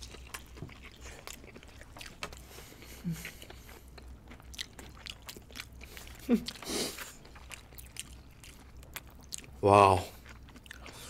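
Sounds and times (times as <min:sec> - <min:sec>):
biting and chewing crispy food: 0:00.0 - 0:11.0.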